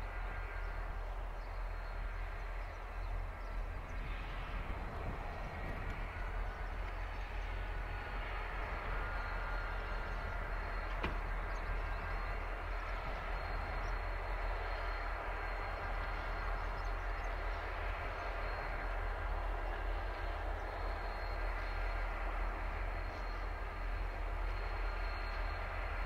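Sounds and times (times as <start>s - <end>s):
distant diesel locomotive rumble: 0.0s - 26.0s.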